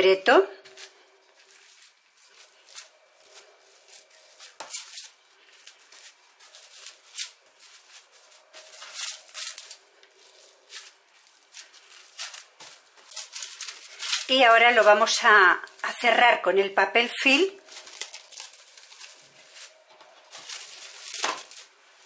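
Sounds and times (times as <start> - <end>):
cling film crinkling: 0.6 - 16.2, 17.3 - 22.0.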